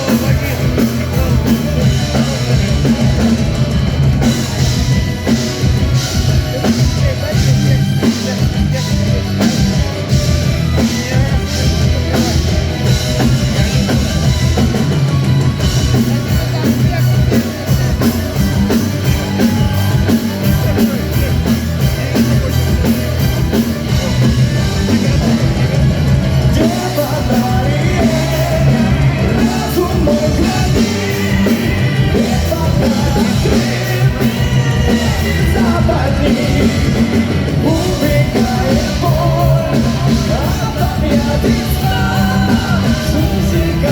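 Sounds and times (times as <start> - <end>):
busy drum kit: 0.0 - 43.9
live metal band playing: 0.0 - 43.9.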